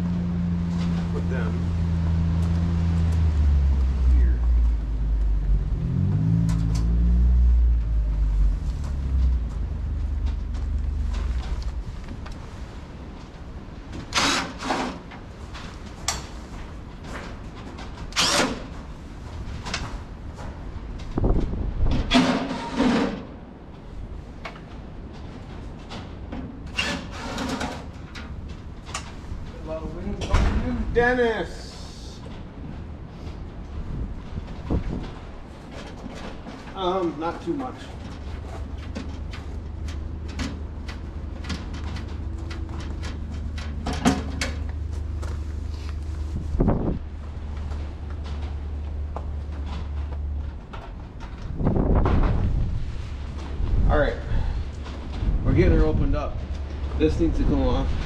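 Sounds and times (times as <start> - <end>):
steady low rumble: 0.0 - 14.1, 18.8 - 22.1, 27.9 - 58.0.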